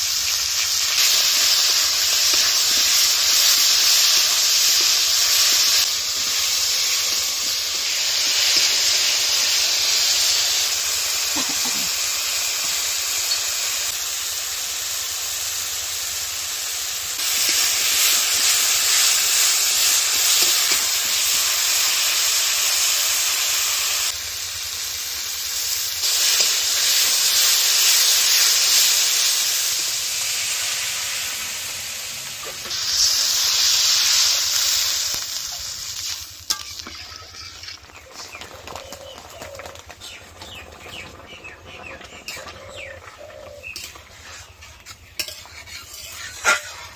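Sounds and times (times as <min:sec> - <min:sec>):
food sizzling in hot oil: 0:00.0 - 0:46.9.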